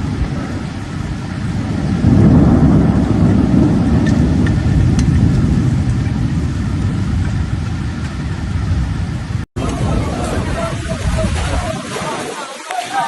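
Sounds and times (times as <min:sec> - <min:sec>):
heavy rain: 0:00.0 - 0:13.0
wind: 0:00.0 - 0:13.0.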